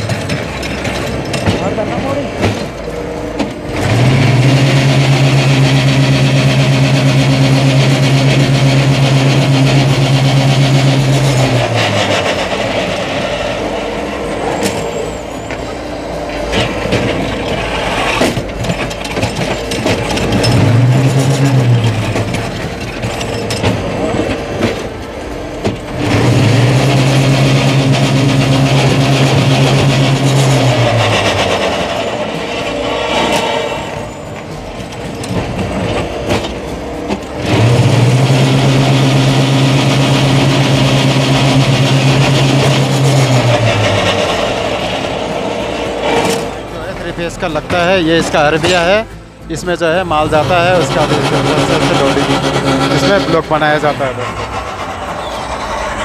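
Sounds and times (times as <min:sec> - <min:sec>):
machine rattling and clanking: 0:00.0 - 0:56.0.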